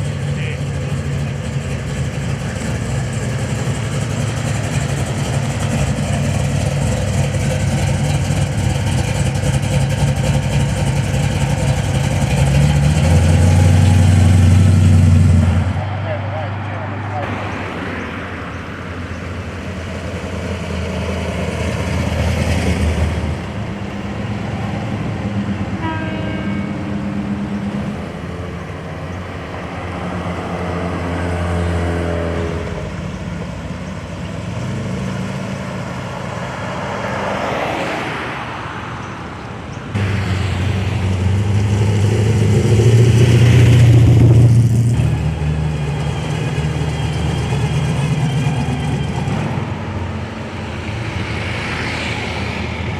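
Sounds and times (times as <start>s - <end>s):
cars driving past: 0.0s - 52.9s.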